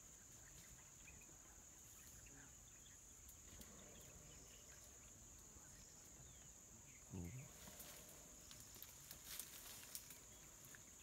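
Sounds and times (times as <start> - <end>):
faint ticks and chirps: 0.0 - 11.0.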